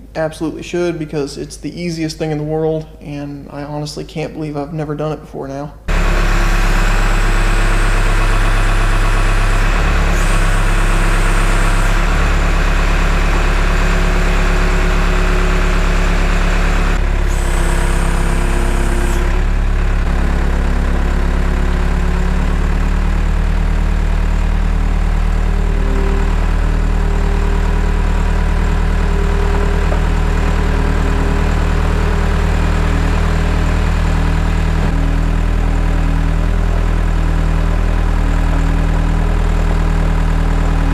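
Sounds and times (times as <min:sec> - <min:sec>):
loud vehicle engine running: 0:05.9 - 0:40.9.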